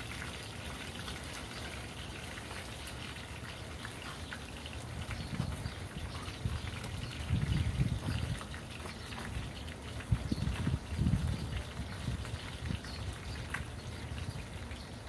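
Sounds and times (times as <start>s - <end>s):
fish sizzling in oil: 0.0s - 14.0s
oil crackles and pops: 0.0s - 15.0s.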